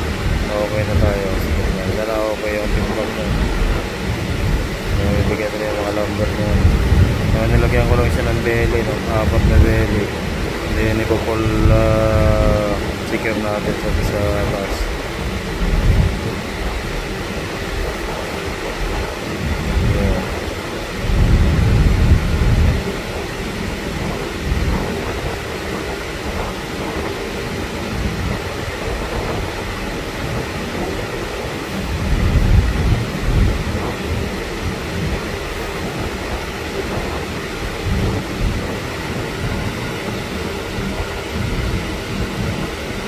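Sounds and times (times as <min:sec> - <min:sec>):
steady rumbling hiss: 0:00.0 - 0:43.0
wind buffeting microphone: 0:00.0 - 0:43.0.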